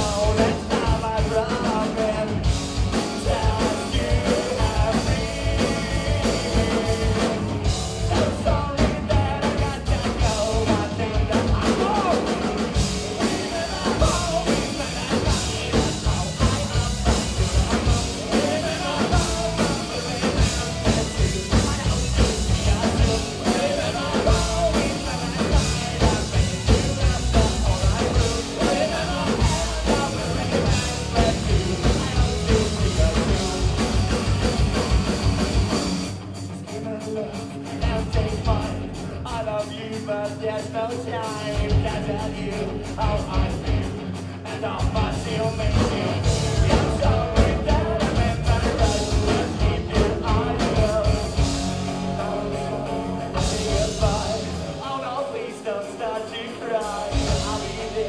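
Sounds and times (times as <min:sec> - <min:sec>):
man singing into a microphone: 0:00.0 - 0:34.6, 0:36.6 - 0:58.0
bass guitar: 0:00.0 - 0:58.0
drum kit: 0:00.0 - 0:58.0
electric guitars: 0:00.0 - 0:58.0.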